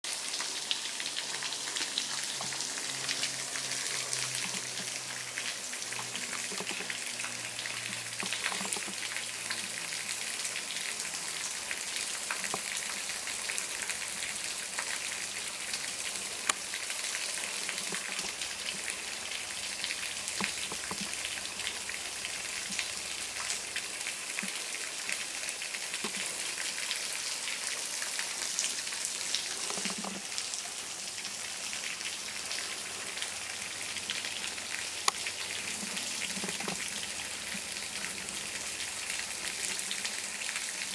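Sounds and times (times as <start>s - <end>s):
waterfall splashing onto rocks: 0.1s - 40.9s.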